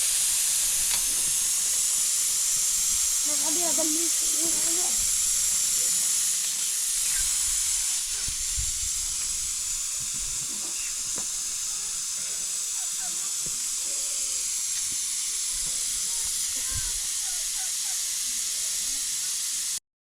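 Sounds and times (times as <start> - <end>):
high-pitched hiss: 0.0 - 19.8.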